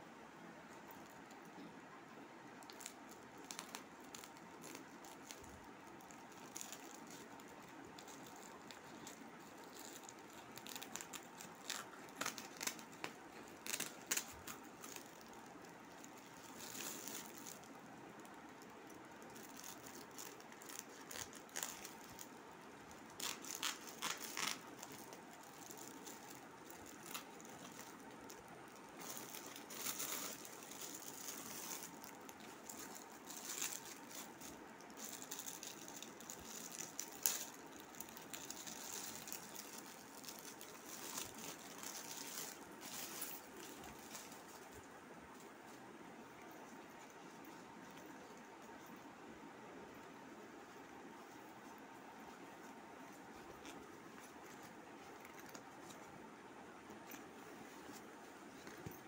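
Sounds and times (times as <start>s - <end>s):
faint steady hiss: 0.0s - 59.0s
packaging crinkling and rustling: 2.6s - 49.0s, 52.5s - 56.2s.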